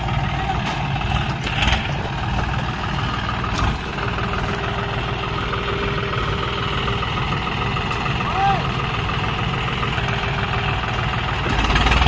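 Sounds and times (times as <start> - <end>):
diesel tractor engines idling: 0.0 - 12.0.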